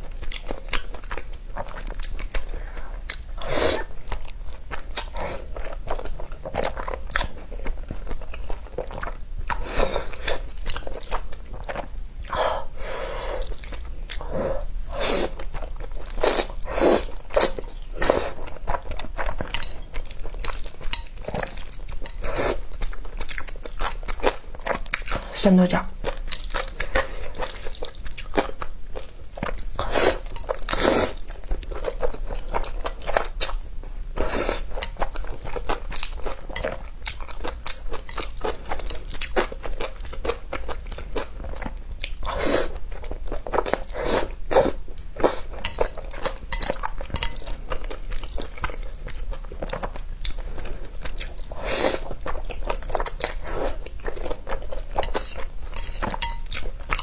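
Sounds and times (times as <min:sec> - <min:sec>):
wet chewing and crunching: 0:00.0 - 0:12.4, 0:13.4 - 0:25.3, 0:26.0 - 0:57.0.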